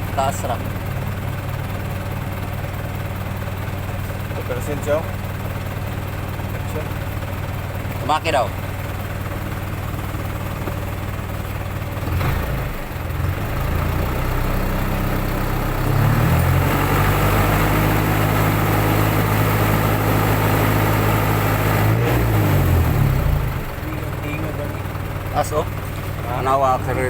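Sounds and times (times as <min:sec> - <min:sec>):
engine idling and revving: 0:00.0 - 0:27.0.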